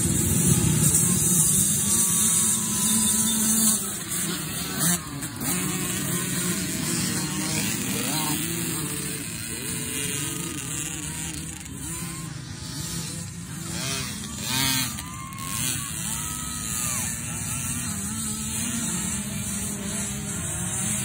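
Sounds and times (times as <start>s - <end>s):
small motorbike engines revving: 0.0s - 21.0s.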